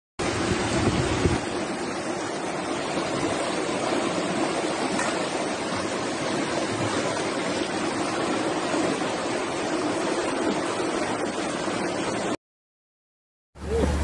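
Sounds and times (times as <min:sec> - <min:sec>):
floodwater rushing: 0:00.2 - 0:12.4, 0:13.6 - 0:14.0.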